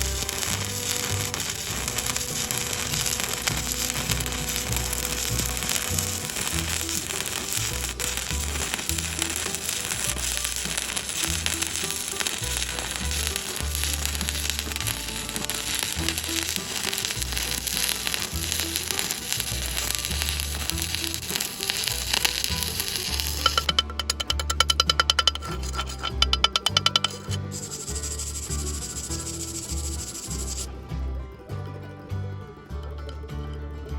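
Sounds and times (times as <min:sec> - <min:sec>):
short scraping strokes: 0:00.0 - 0:30.7
welding arc crackling: 0:00.0 - 0:30.7
music with stepping bass line: 0:00.0 - 0:33.9.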